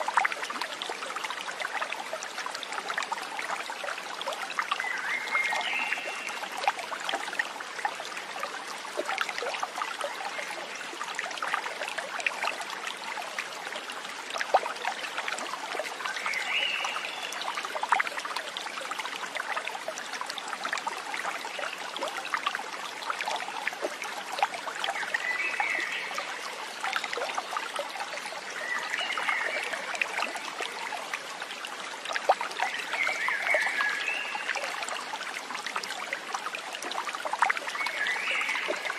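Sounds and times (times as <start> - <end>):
stream trickling and splashing: 0.0 - 38.9.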